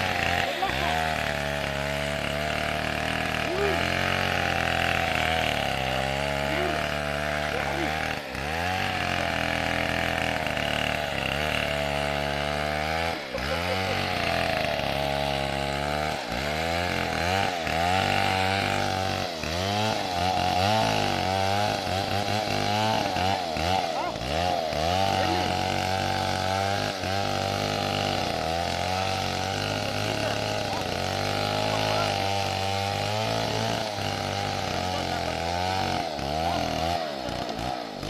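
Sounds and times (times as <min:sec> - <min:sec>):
chainsaw engine revving: 0:00.0 - 0:38.0.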